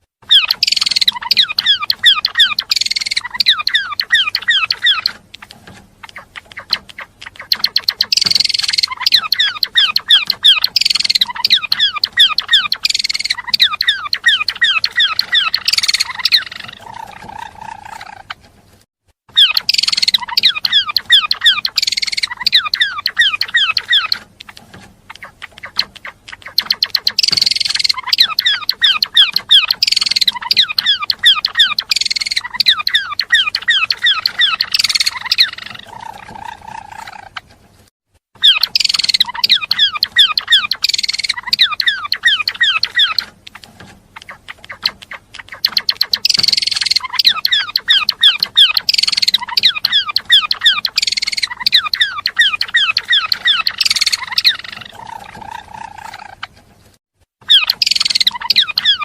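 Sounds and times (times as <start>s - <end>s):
songbird chattering song: 0.2s - 18.4s, 19.3s - 37.4s, 38.4s - 56.6s, 57.4s - 59.0s.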